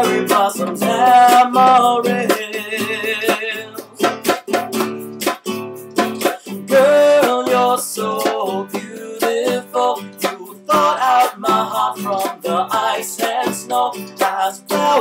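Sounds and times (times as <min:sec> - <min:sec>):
man singing: 0:00.0 - 0:04.2, 0:06.2 - 0:15.0
classical guitar strumming chords: 0:00.0 - 0:15.0.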